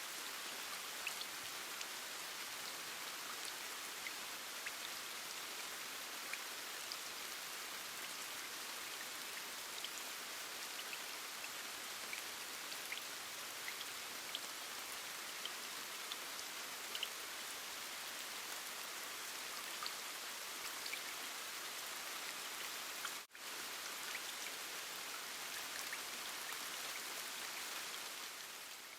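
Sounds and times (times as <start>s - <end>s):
steady rain hiss: 0.0s - 28.9s.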